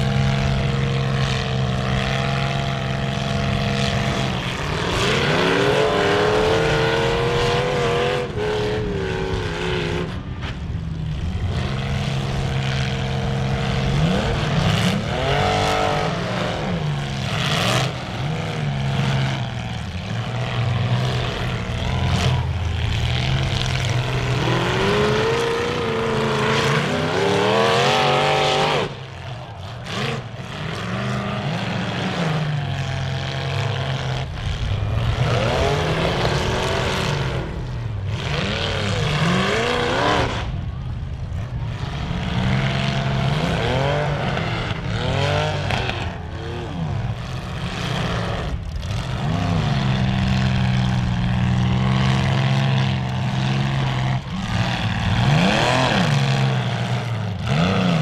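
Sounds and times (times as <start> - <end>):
car engines revving: 0.0 - 58.0
low engine rumble: 0.0 - 58.0.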